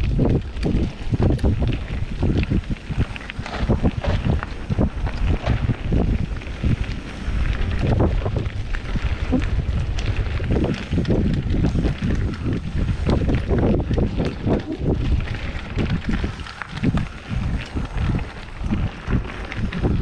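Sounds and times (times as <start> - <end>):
bike knocks and rattles: 0.0 - 20.0
bike tyre rumble: 0.0 - 20.0
wind buffeting microphone: 0.0 - 20.0.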